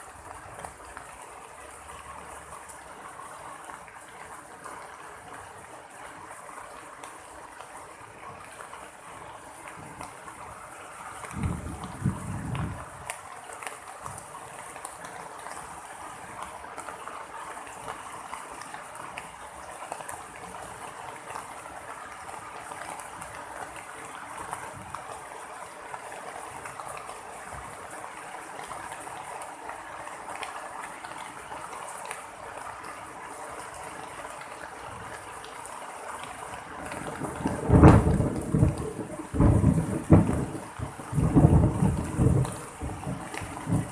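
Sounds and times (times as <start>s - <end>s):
heavy rain: 0.0s - 43.9s
rain drops ticking: 0.0s - 43.9s.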